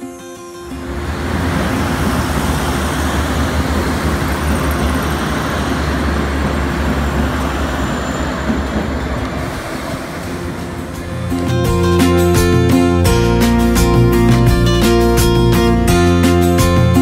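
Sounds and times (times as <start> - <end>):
train engine drone: 0.0 - 16.8
wheels rumbling on rails: 0.6 - 14.5.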